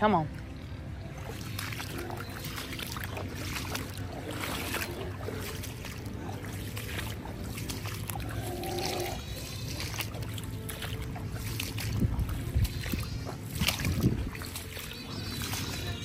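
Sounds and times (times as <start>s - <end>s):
rubber boots splashing through water: 0.0s - 16.0s.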